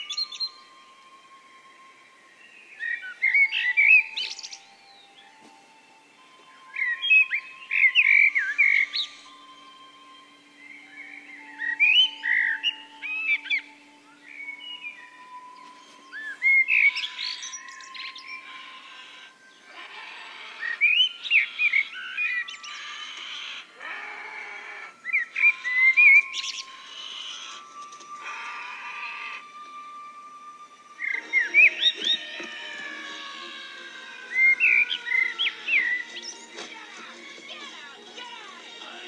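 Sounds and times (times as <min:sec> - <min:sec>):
birds chirping and twittering: 0:00.0 - 0:39.0
music with long held notes: 0:00.0 - 0:39.0.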